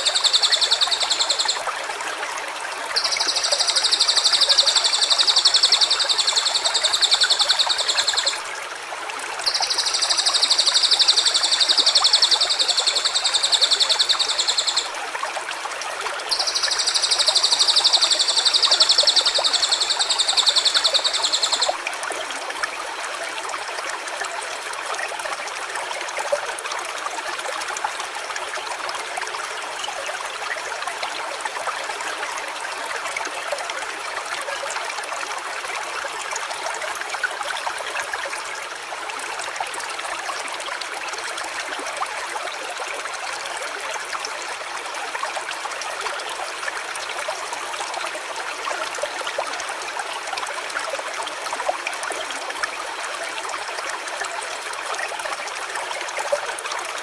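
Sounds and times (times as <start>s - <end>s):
running stream: 0.0s - 57.0s.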